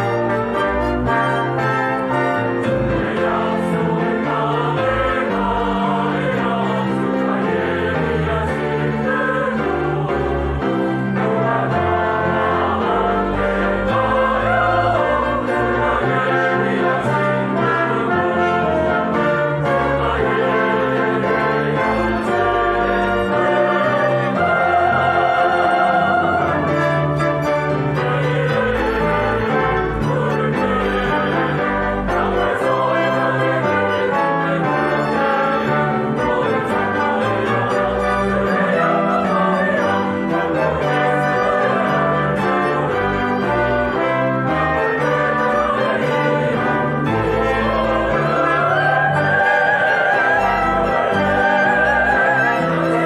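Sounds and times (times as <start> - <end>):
choir singing: 0.0 - 53.0
string orchestra: 0.0 - 53.0.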